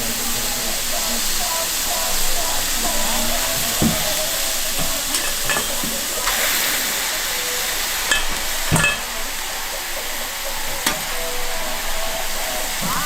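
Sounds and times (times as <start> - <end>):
metal utensils clinking: 0.0 - 13.0
steak sizzling: 0.0 - 13.0.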